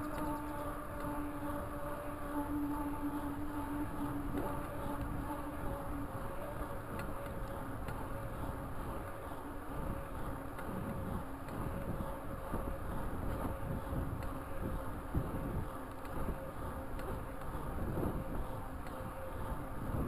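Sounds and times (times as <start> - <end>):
tyres humming on asphalt: 0.0 - 20.0
wind rumble on microphone: 0.0 - 20.0.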